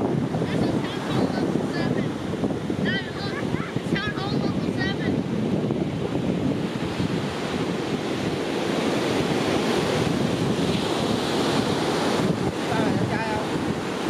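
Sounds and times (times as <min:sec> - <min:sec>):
surf washing on shore: 0:00.0 - 0:14.0
wind buffeting microphone: 0:00.0 - 0:14.0.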